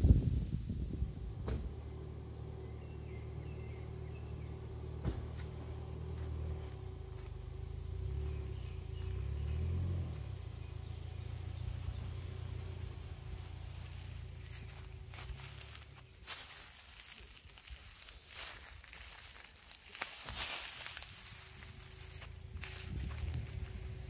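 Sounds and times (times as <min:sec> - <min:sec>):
low engine-like rumble: 0:00.0 - 0:24.0.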